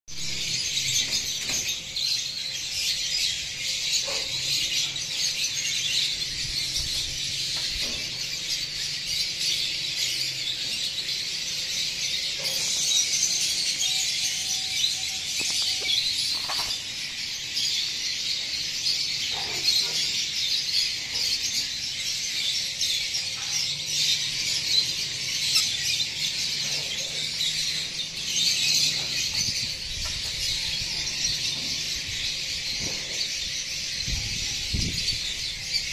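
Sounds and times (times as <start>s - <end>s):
lovebirds chirping and chattering: 0.1s - 35.9s.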